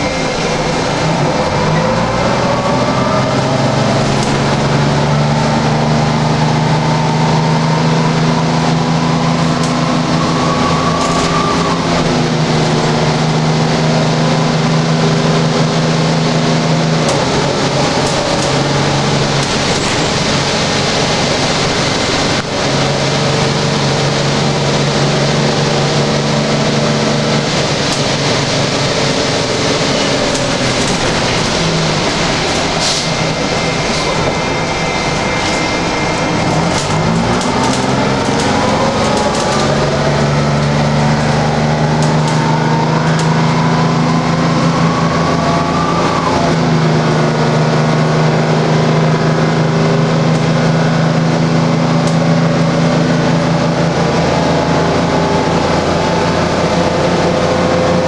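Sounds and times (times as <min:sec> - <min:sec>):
bus engine running: 0:00.0 - 0:58.0
road noise: 0:00.0 - 0:58.0
whine: 0:00.0 - 0:58.0.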